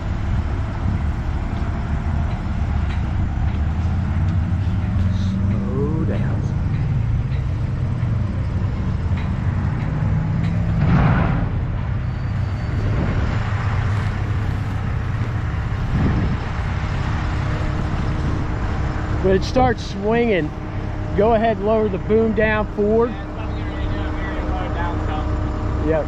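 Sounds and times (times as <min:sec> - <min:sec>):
crane engine running under load: 0:00.0 - 0:26.0.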